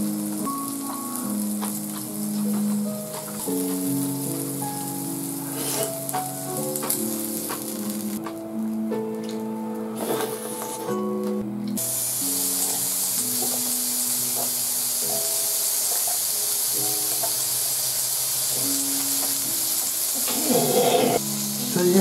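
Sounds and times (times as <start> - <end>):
meat sizzling on a grill: 0.0 - 11.0, 11.8 - 22.0
background music with held notes: 0.0 - 22.0.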